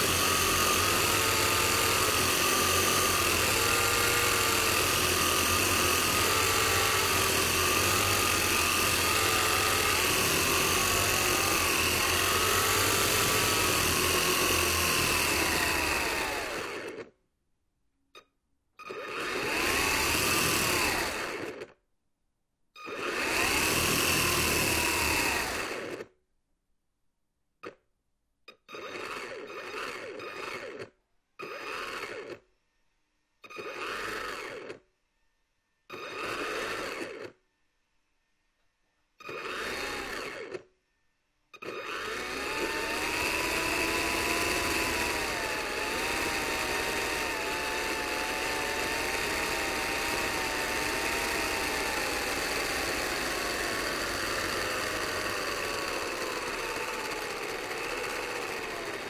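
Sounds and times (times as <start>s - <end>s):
toy propeller motor whirring: 0.0s - 17.1s, 18.9s - 21.8s, 22.8s - 26.1s, 28.7s - 32.4s, 33.4s - 34.8s, 35.9s - 37.4s, 39.2s - 40.7s, 41.6s - 59.0s.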